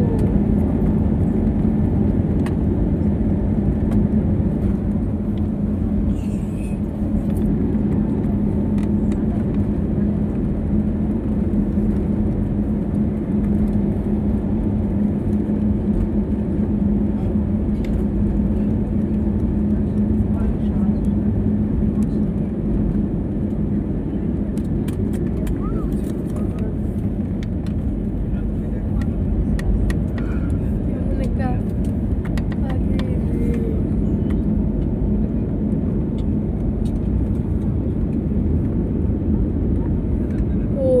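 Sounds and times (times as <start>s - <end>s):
airplane engines rumbling: 0.0s - 41.0s.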